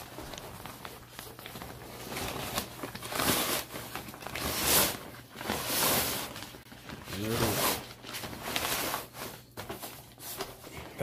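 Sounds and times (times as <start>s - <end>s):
fabric bag rustling and swishing: 0.0s - 11.0s.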